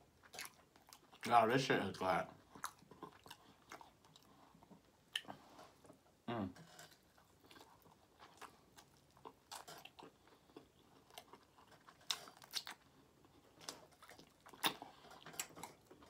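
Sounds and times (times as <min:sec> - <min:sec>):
close chewing and biting: 0:00.0 - 0:01.3, 0:02.3 - 0:05.4, 0:06.7 - 0:16.0.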